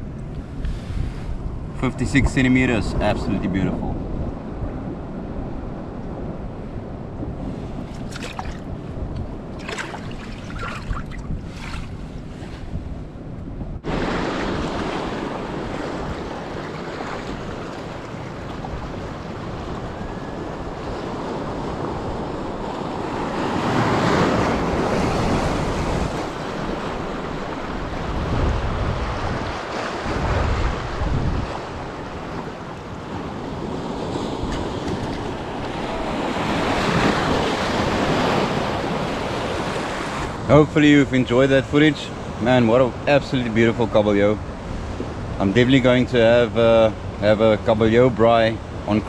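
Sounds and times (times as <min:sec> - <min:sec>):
ocean surf breaking: 0:00.0 - 0:13.2, 0:13.8 - 0:49.0
wind buffeting microphone: 0:00.0 - 0:49.0.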